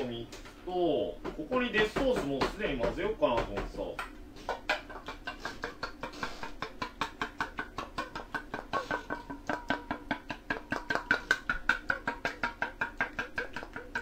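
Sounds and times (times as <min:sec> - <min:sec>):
chopsticks beating eggs in metal bowl: 0:01.4 - 0:14.0.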